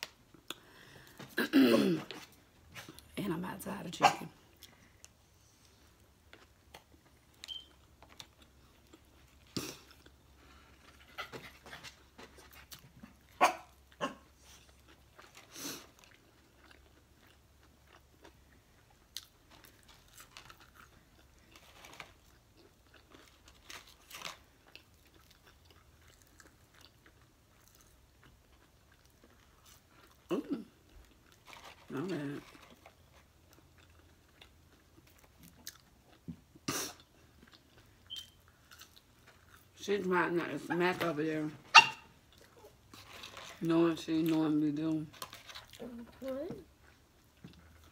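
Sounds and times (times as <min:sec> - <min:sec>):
fries chewed: 0:04.4 - 0:40.1, 0:41.8 - 0:47.9.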